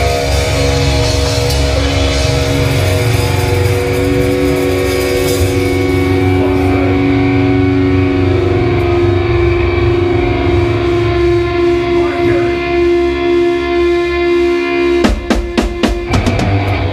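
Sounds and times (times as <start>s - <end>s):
bass guitar: 0.0s - 16.9s
drum kit: 0.0s - 16.9s
electric guitars sustained notes: 0.0s - 16.9s.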